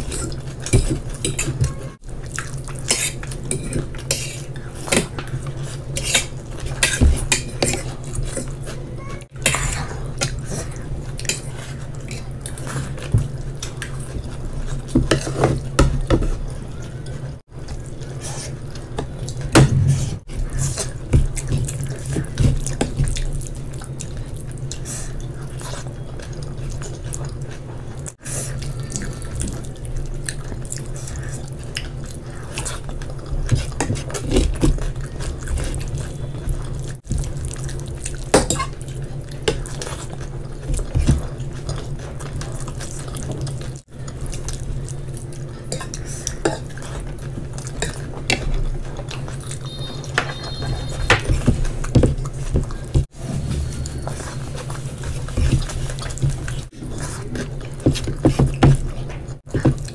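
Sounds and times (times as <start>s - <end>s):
wet eating sounds: 0.0s - 59.9s.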